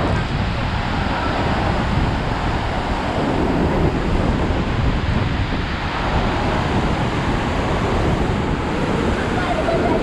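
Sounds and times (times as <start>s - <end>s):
rapids rushing: 0.0s - 10.0s
waterfall roaring: 0.0s - 10.0s
wind rumbling on microphone: 0.0s - 10.0s.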